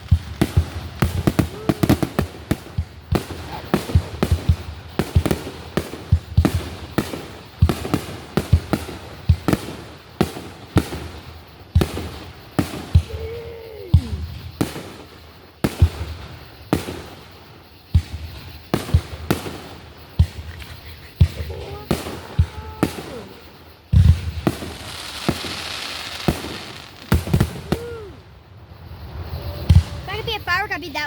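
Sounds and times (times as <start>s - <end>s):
fireworks bangs and booms: 0.0s - 31.0s.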